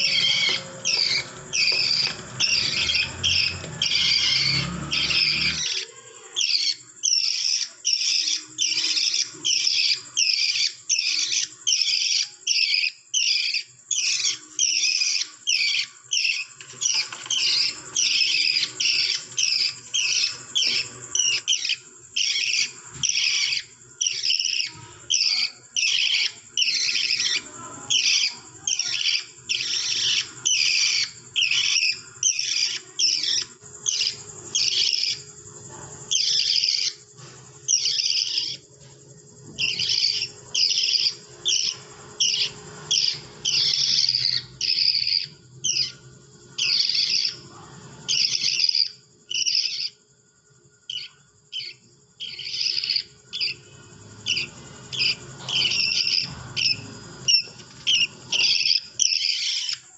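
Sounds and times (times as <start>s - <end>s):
budgerigar chirping harshly: 0.0s - 35.2s, 36.1s - 37.0s, 37.6s - 38.6s, 39.6s - 46.0s, 46.6s - 47.4s, 48.1s - 50.0s, 50.9s - 53.6s, 54.2s - 59.8s.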